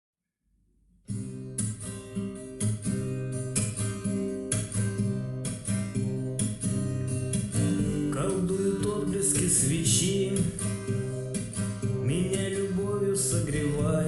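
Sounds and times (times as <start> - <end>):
acoustic guitar strumming chords: 1.1 - 14.0.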